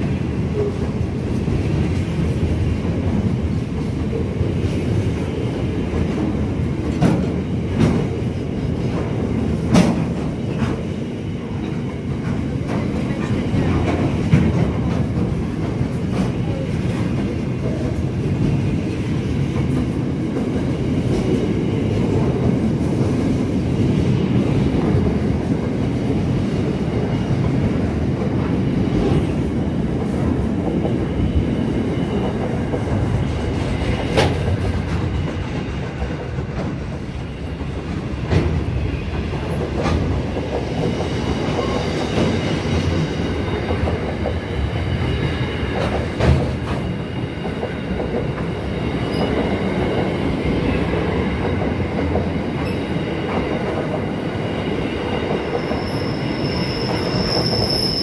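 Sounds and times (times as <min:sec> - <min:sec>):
train wagons rumbling: 0:00.0 - 0:58.0.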